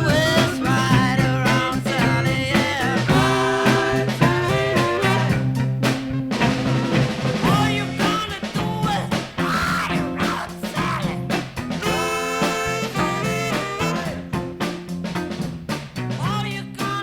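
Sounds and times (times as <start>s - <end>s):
beat band playing instrumental: 0.0s - 17.0s.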